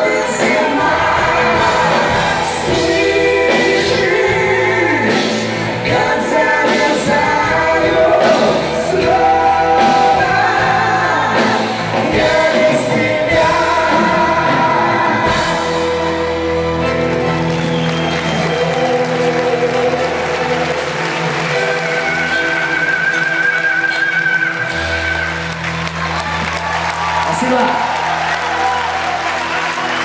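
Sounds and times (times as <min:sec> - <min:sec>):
person singing: 0:00.0 - 0:17.5, 0:18.2 - 0:25.6
live band playing rock ballad: 0:00.0 - 0:30.0.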